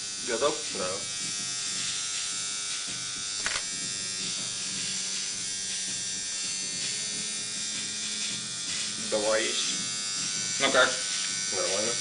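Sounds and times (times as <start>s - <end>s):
steady electrical machine buzz: 0.0s - 12.0s.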